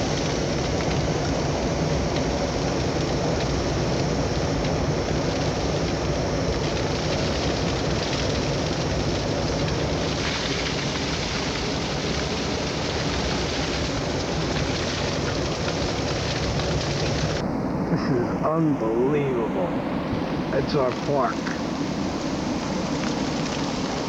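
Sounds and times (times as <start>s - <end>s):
low engine hum: 0.0s - 24.0s
tyres rushing on snowy road: 0.0s - 24.0s.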